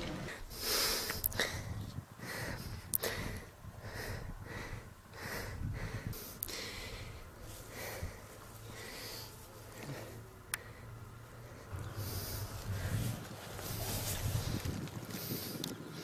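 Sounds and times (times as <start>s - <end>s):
person breathing hard: 0.3s - 15.6s.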